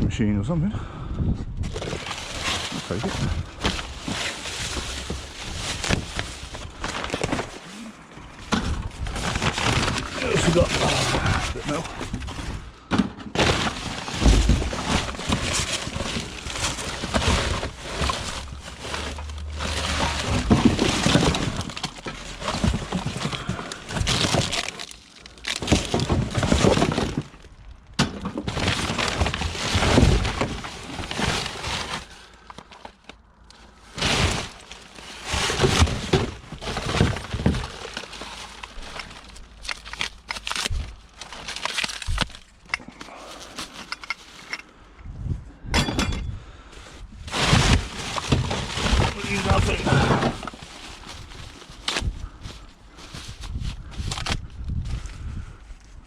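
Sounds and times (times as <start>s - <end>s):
junk clattering and scraping: 1.6s - 33.1s, 33.8s - 44.8s, 45.6s - 46.4s, 47.2s - 51.5s.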